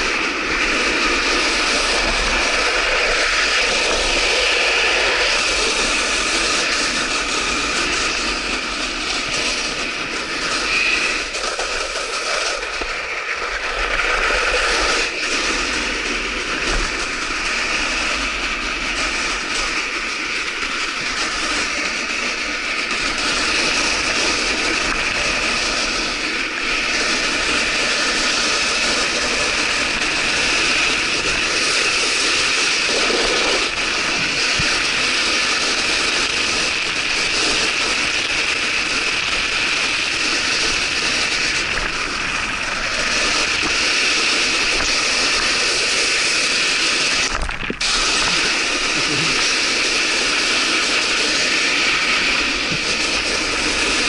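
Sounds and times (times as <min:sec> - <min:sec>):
board scraping over icy snow: 0:00.0 - 0:54.0.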